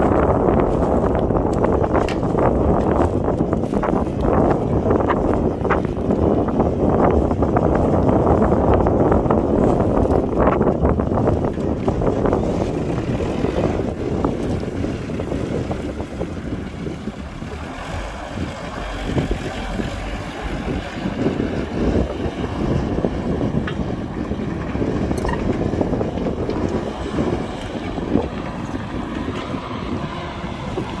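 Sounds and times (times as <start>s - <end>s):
heavy machinery engines rumbling: 0.0s - 31.0s
wind buffeting microphone: 0.0s - 31.0s.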